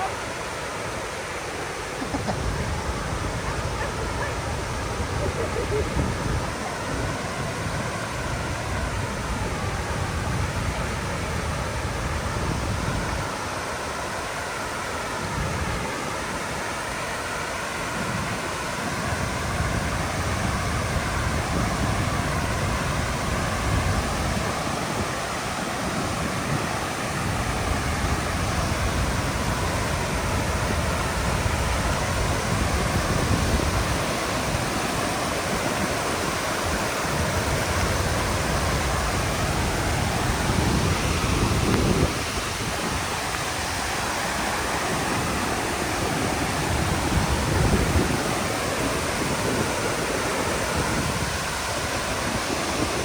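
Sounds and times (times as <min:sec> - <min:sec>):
waterfall rushing: 0:00.0 - 0:53.0
wind buffeting microphone: 0:02.0 - 0:53.0.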